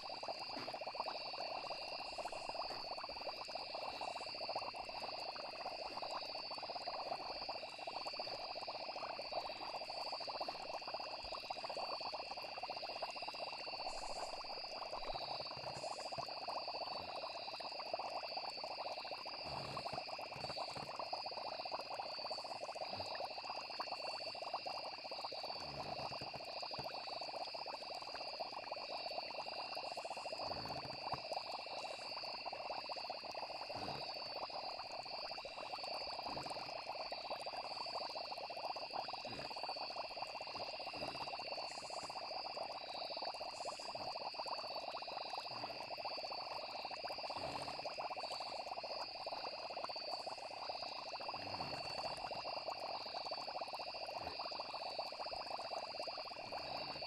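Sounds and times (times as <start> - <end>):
frogs and insects trilling: 0.0 - 57.0
low bubbling blips: 0.0 - 57.0.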